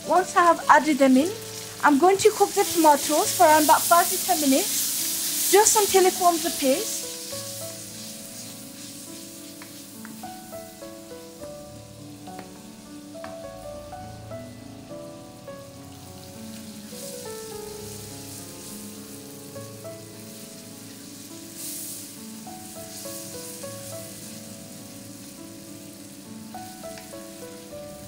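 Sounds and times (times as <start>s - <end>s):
background music with melody: 0.0s - 28.0s
vegetables sizzling in oil: 0.0s - 28.0s.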